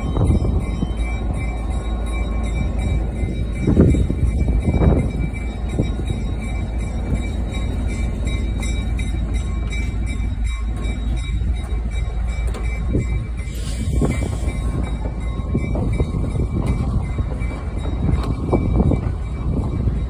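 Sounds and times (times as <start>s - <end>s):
railroad car rumbling and rattling: 0.0s - 20.0s.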